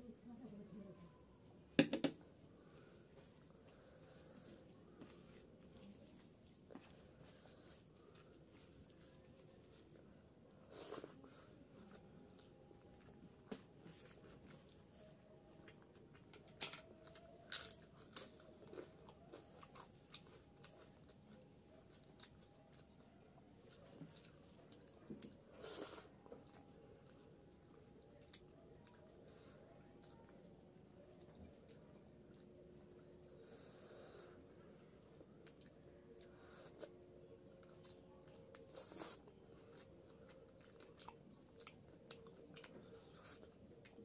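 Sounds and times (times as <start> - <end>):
person chewing food: 3.1 - 33.6, 34.3 - 44.0.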